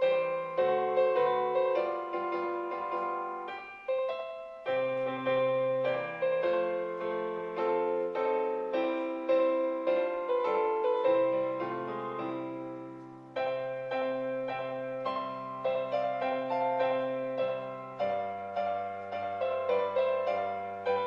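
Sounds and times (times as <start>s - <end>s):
slow piano hymn: 0.0s - 21.0s.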